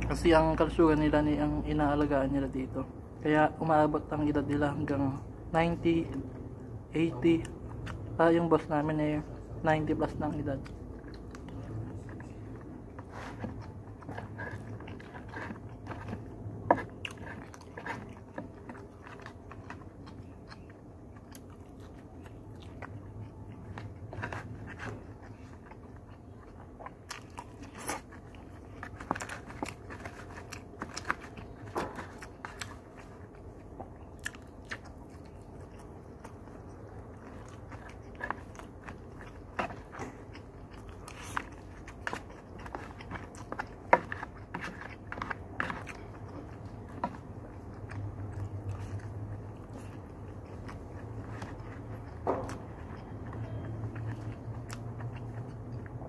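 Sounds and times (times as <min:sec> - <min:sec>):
close-up chewing: 0:00.0 - 0:56.0
low steady hum: 0:00.0 - 0:56.0.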